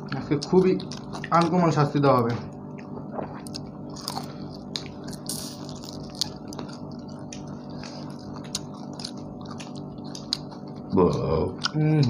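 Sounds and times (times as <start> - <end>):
people eating clicks and smacks: 0.0 - 12.0
steady low hum: 0.0 - 12.0.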